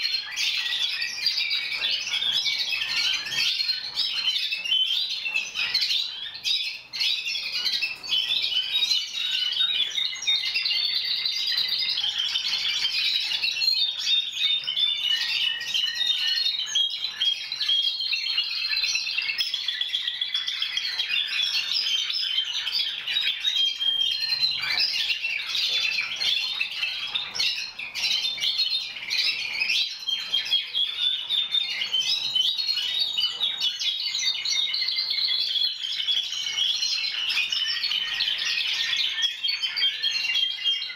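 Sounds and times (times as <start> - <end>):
canaries singing trills: 0.0 - 40.9.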